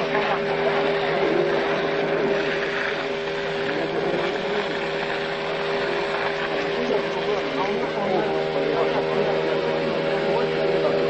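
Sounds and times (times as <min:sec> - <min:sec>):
engine droning hum: 0:00.0 - 0:11.0.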